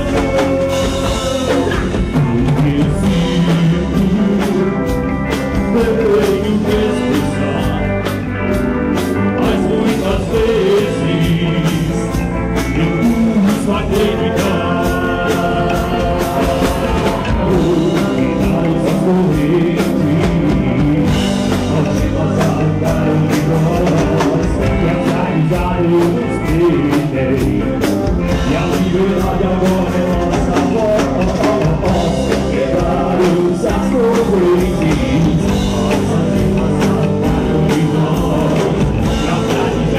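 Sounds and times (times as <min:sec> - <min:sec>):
person singing: 0:00.0 - 0:39.9
rock band playing: 0:00.0 - 0:39.9
steady drum beat: 0:00.0 - 0:39.9.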